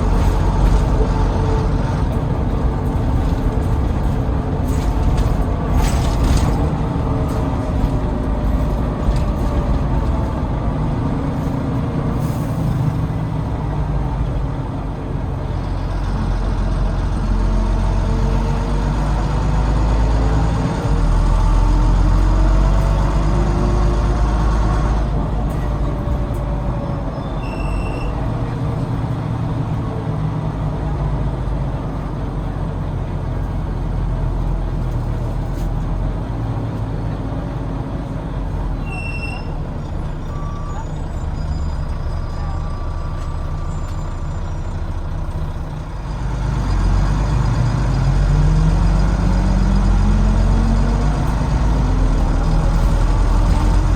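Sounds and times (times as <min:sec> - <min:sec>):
bus diesel engine running: 0:00.0 - 0:53.9.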